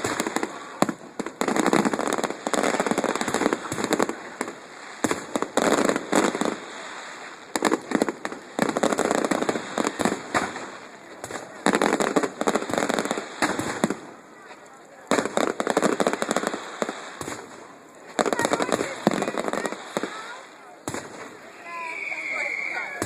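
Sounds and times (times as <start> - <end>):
fireworks crackling bangs: 0.0 - 23.0.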